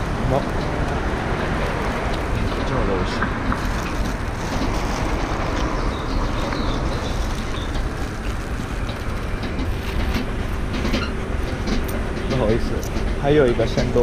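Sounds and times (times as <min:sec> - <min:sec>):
cars passing on street: 0:00.0 - 0:14.0.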